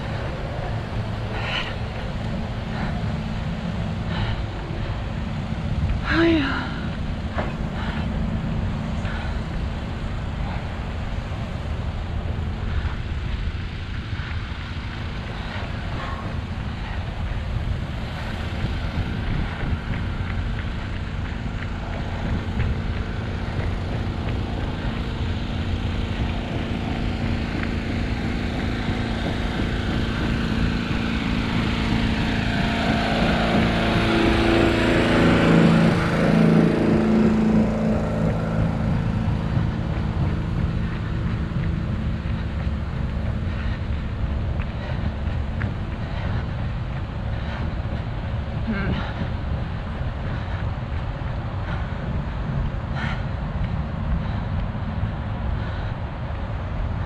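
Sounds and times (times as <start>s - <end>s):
city road traffic: 0.0s - 57.0s
vehicle engine hum: 0.0s - 57.0s
wind on microphone: 0.0s - 57.0s.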